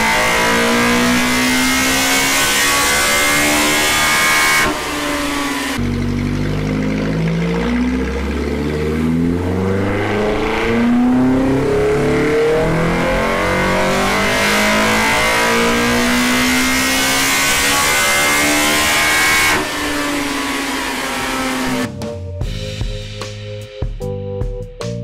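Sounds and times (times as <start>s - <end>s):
car engine revving on dyno: 0.0s - 21.9s.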